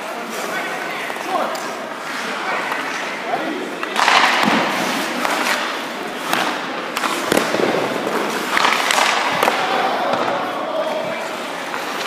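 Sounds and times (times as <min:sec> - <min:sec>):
skate blades scraping ice: 0:00.0 - 0:12.0.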